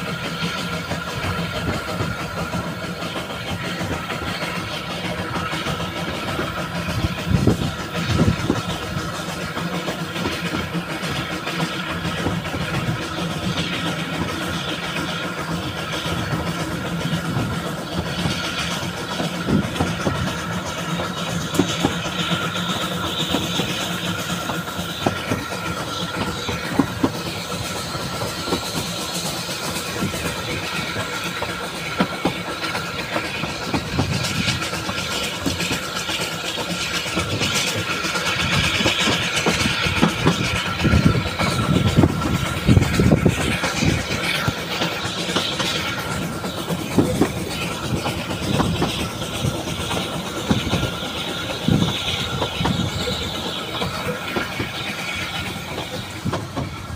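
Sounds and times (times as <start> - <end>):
train rumbling: 0.0 - 56.9
wheels clicking over rail joints: 0.0 - 56.9.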